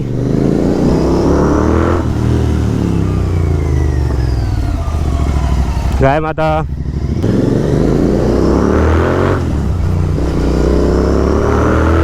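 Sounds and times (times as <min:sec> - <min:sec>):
motorcycle accelerating away: 0:00.0 - 0:12.0.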